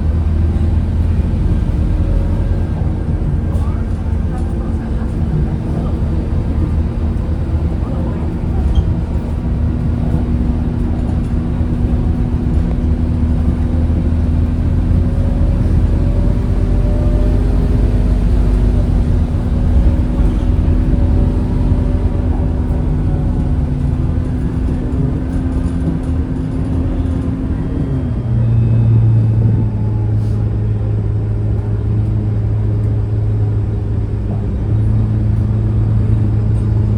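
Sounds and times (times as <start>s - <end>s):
bus diesel engine droning: 0.0s - 36.9s
road rumble: 0.0s - 36.9s.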